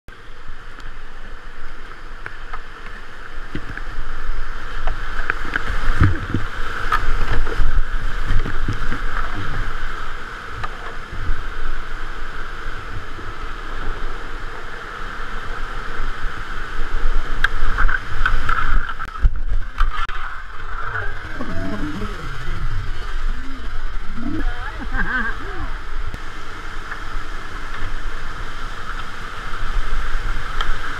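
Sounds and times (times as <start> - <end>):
whitewater rushing: 0.1 - 30.9.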